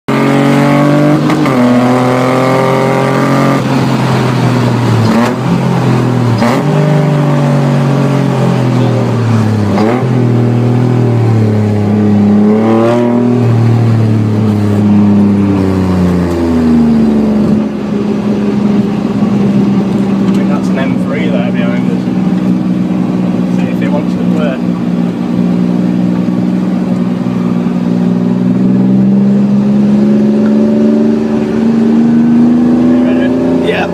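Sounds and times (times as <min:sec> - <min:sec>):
car engine running hard: 0:00.1 - 0:33.9.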